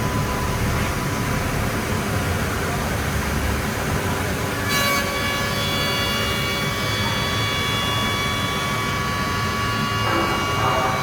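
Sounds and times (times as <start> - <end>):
machining centre whine: 0.0 - 11.0.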